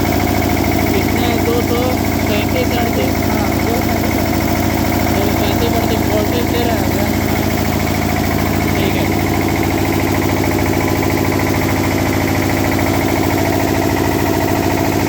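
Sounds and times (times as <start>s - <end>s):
diesel generator engine running: 0.0s - 15.0s.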